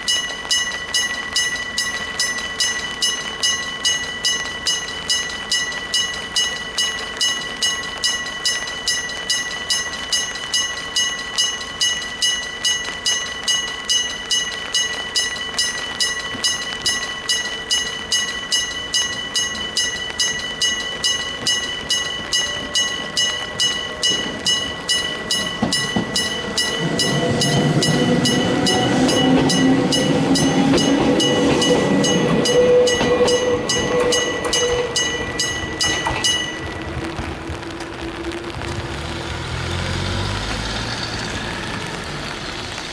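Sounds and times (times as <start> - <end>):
level crossing bell ringing: 0.0 - 36.7
electric train passing: 0.0 - 42.9.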